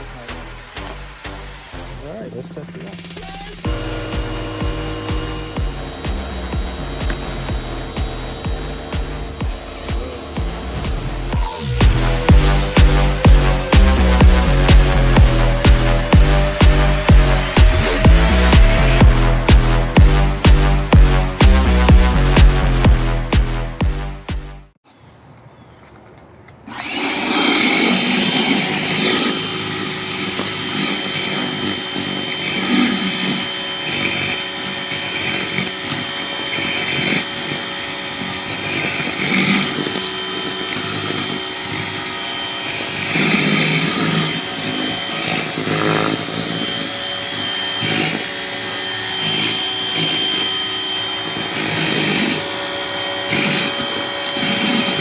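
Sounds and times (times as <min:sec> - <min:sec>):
electric pressure washer whine: 0:00.0 - 0:20.7, 0:26.6 - 0:55.0.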